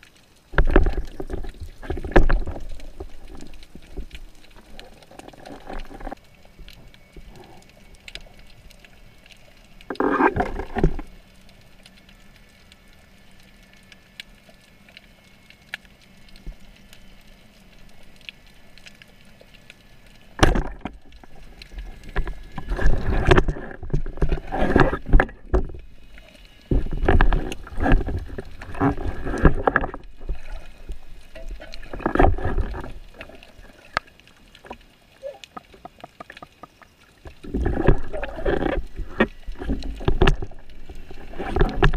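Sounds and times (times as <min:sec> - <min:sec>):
underwater water noise: 0:00.0 - 0:41.9
water sloshing and gurgling: 0:00.0 - 0:41.9.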